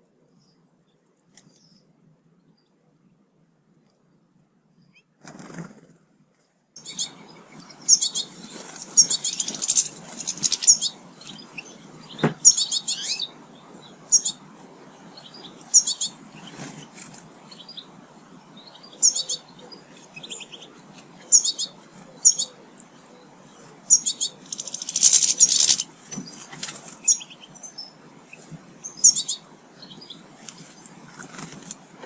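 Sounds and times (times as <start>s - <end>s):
small birds chirping: 0.3s - 2.8s, 6.8s - 32.0s.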